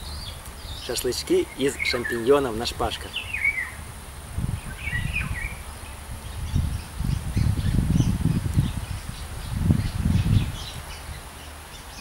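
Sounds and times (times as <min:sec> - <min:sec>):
songbirds chirping: 0:00.0 - 0:12.0
wind rumbling on microphone: 0:00.0 - 0:12.0.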